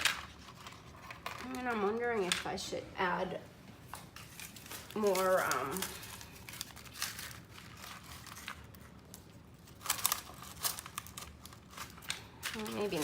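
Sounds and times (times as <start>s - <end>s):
crinkling: 0.0s - 2.6s, 3.8s - 13.0s.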